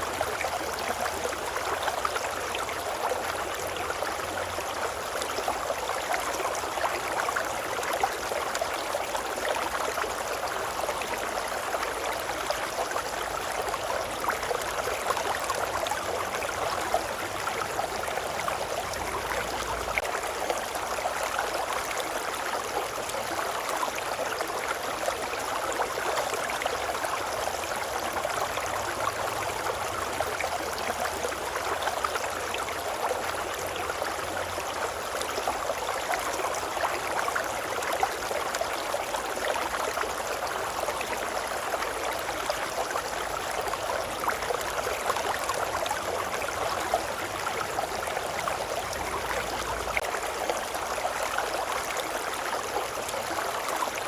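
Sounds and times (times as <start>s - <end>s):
brook running water: 0.0s - 54.0s.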